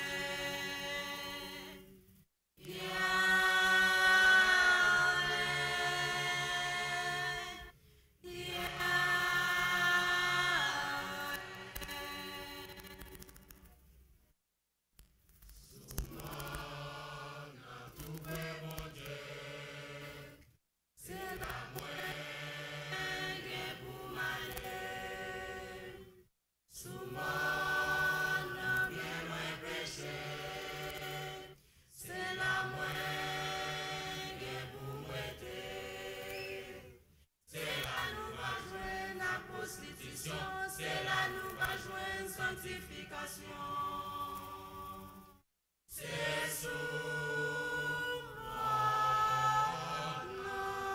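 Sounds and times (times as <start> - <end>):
mixed choir singing: 0.0 - 2.0, 2.6 - 13.2, 15.8 - 45.3, 45.9 - 50.9.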